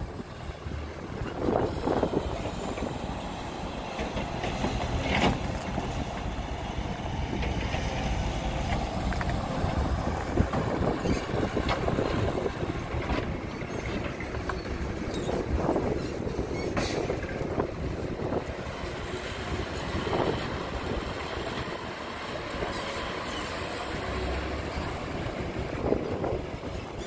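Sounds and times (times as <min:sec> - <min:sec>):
dump truck engine rumble: 0:00.0 - 0:27.0.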